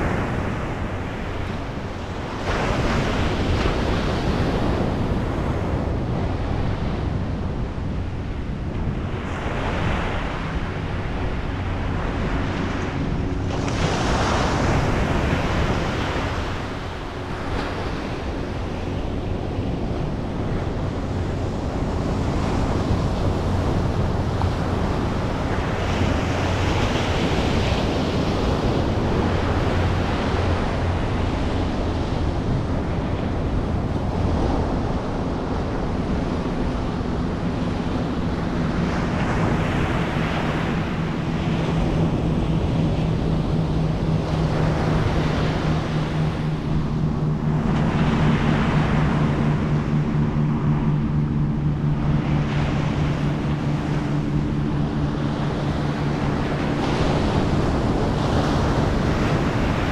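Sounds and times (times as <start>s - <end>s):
ocean surf breaking on beach: 0.0s - 59.9s
wind buffeting microphone: 0.0s - 59.9s.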